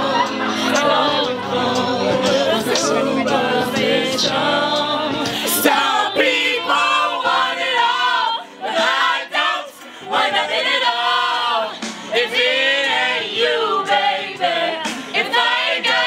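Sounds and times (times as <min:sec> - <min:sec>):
group singing in unison: 0:00.0 - 0:16.0.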